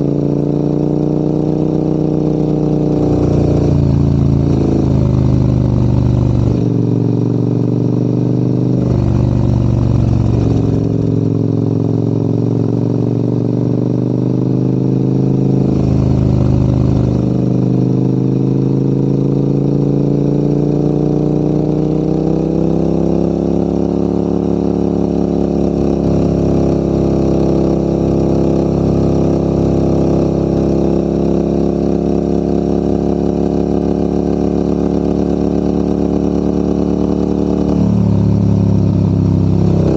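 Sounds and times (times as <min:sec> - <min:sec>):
motorcycle engine pulling uphill: 0:00.0 - 0:39.9.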